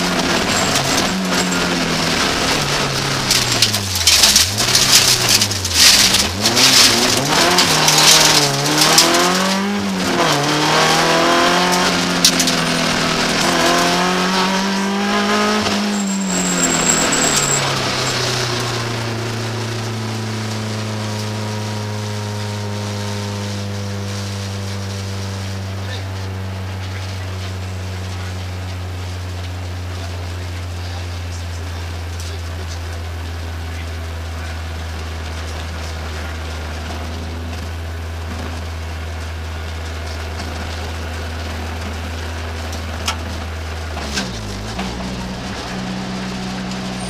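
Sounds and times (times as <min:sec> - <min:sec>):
gravel rattling against car: 0:00.0 - 0:22.0, 0:24.3 - 0:47.0
car engine revving: 0:00.0 - 0:47.0.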